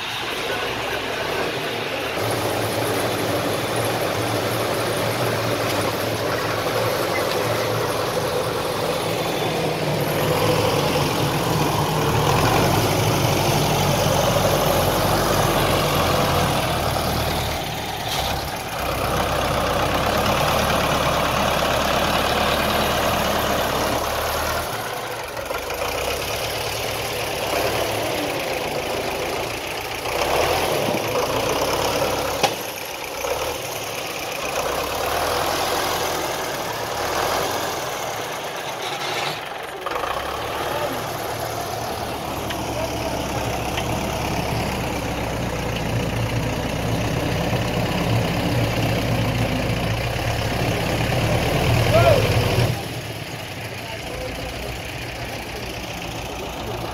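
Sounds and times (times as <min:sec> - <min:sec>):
tractor engine rumbling: 0:00.0 - 0:56.9.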